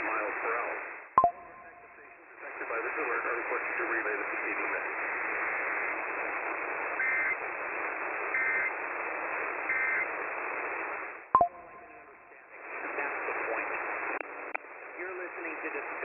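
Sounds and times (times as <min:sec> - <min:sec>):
radio static hiss: 0:00.0 - 0:01.1, 0:01.7 - 0:16.0.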